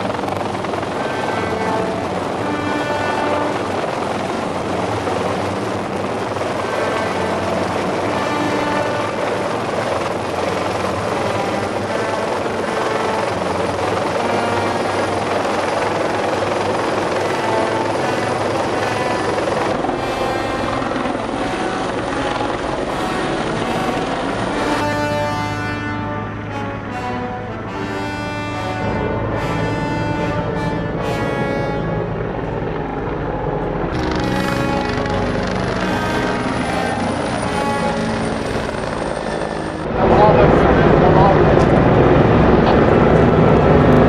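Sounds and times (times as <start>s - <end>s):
background music: 0.0s - 40.4s
helicopter running: 0.0s - 44.0s.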